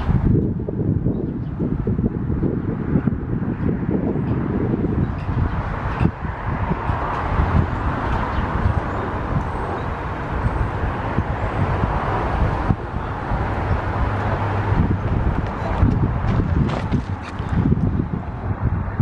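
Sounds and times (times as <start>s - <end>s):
road traffic: 0.0s - 19.0s
wind on microphone: 0.0s - 19.0s.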